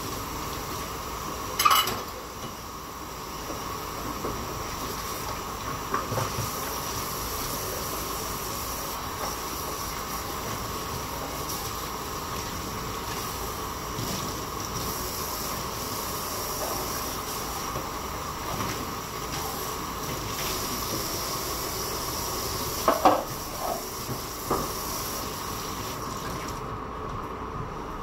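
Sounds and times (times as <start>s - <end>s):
pot of soup hissing: 2.7s - 26.1s.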